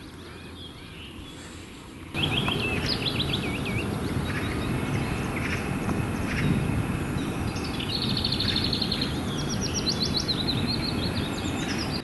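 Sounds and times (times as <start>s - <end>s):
low background noise: 0.0s - 12.0s
songbirds singing and chirping: 0.0s - 12.0s.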